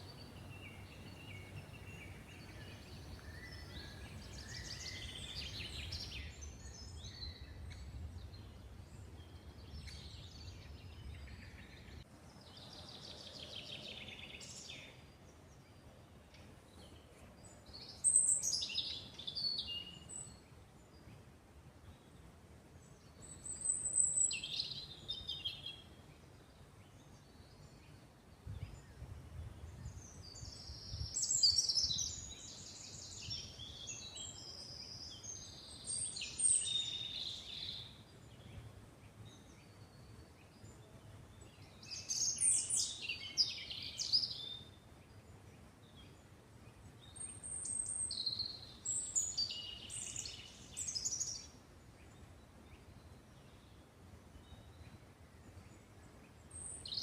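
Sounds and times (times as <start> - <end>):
songbirds singing: 0.0 - 21.2, 21.8 - 57.0.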